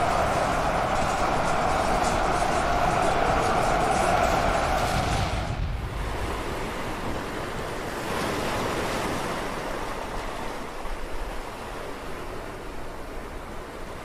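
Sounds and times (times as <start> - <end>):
ocean waves rushing: 0.0 - 14.0
wind: 0.0 - 14.0.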